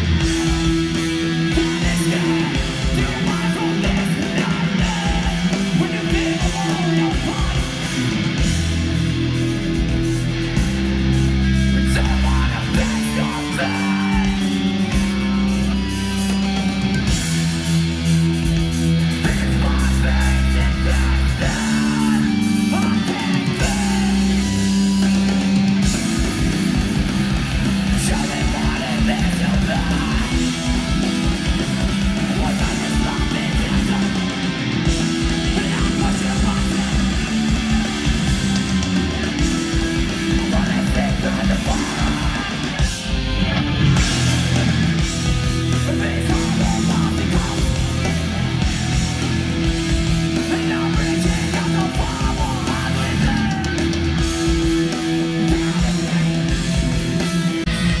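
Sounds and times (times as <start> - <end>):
dense drumming: 0.0 - 58.0
punk band playing live: 0.0 - 58.0.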